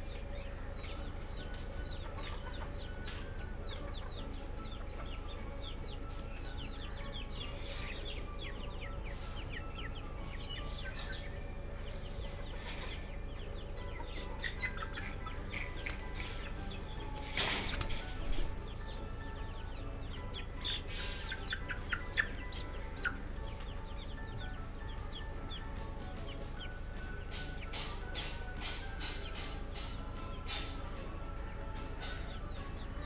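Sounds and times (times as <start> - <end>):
chickens clucking: 0.0 - 33.0
steady low hum: 0.0 - 33.0.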